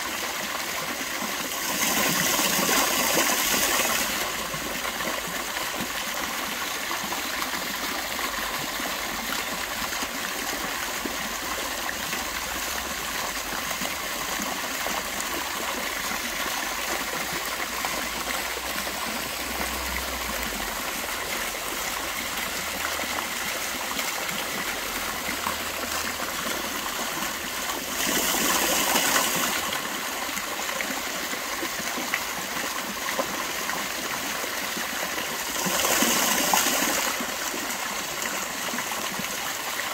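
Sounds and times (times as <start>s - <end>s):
fountain jets splashing into basin: 0.0s - 39.9s
water spilling over stone edge: 0.0s - 39.9s.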